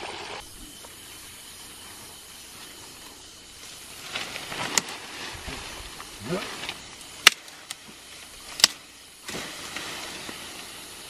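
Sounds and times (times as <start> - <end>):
leaves and branches rustling: 0.0 - 11.0
night ambience hiss: 0.0 - 11.0.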